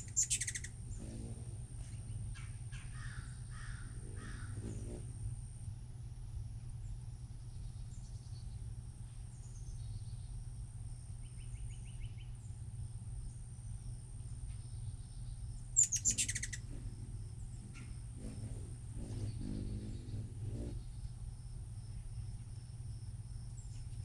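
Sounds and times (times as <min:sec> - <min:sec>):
faint bird calls and chirps: 0:00.0 - 0:05.4, 0:06.8 - 0:22.8, 0:23.5 - 0:24.0
low background hum: 0:00.0 - 0:24.0.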